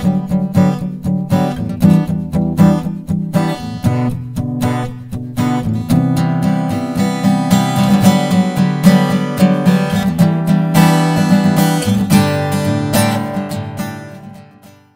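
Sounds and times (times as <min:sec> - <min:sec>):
acoustic guitar strummed: 0:00.0 - 0:14.9.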